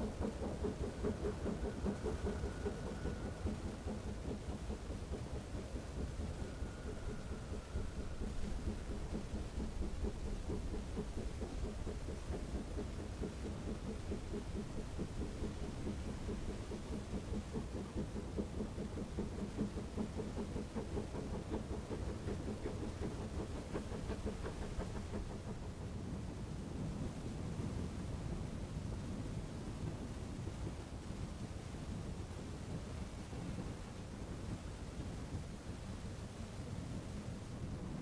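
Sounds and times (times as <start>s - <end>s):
distant steam train rumble: 0.0s - 38.0s.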